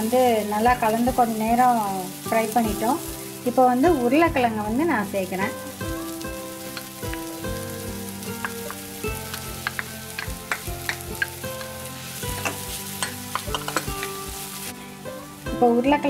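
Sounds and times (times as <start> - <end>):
vegetables sizzling in metal pan: 0.0 - 16.0.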